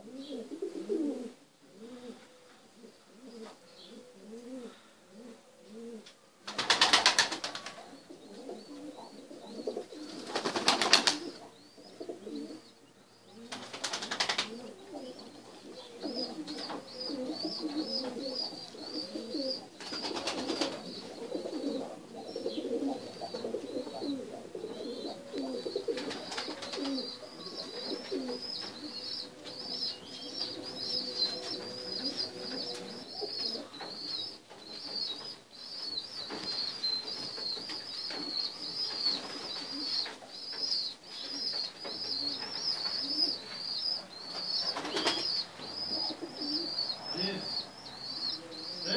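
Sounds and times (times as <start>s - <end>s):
pigeons cooing: 0.0s - 48.9s.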